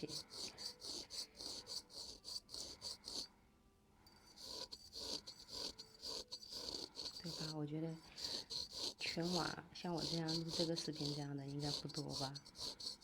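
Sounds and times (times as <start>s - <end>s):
razor scraping skin: 0.0s - 3.3s, 4.1s - 13.0s.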